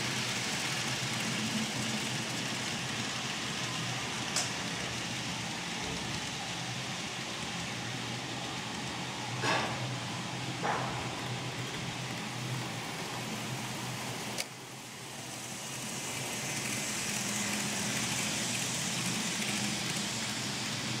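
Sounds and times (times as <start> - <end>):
model train rolling hiss: 0.0 - 21.0.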